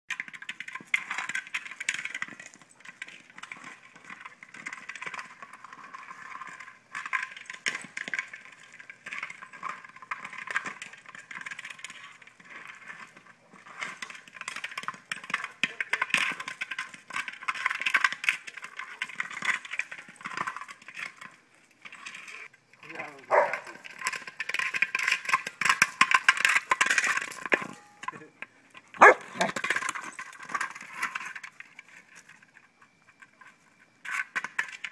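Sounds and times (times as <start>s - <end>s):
toy rolling on gravel: 0.1s - 34.9s
gravel crunching under paws: 0.2s - 34.9s.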